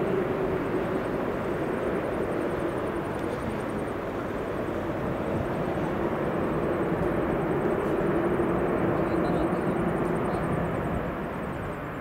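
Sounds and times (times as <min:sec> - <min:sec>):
jet engine rushing noise: 0:00.0 - 0:12.0.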